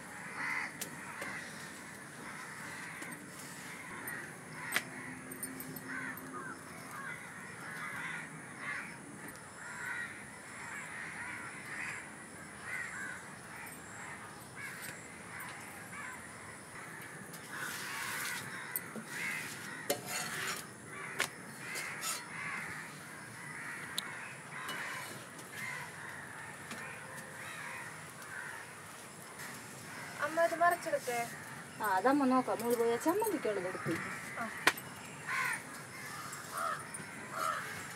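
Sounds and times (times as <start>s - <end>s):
crows cawing: 0.0s - 32.0s, 32.7s - 37.9s.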